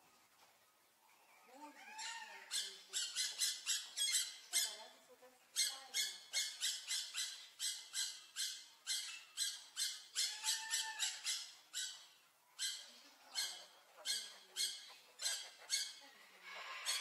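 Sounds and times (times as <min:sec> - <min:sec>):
parrot squawking: 0:01.8 - 0:04.9, 0:05.6 - 0:17.0.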